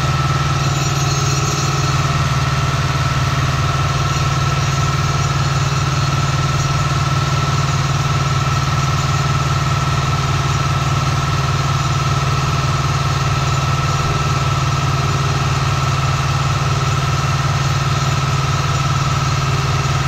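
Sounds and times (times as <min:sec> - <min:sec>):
high whine: 0:00.0 - 0:20.0
tractor diesel engine running: 0:00.0 - 0:20.0.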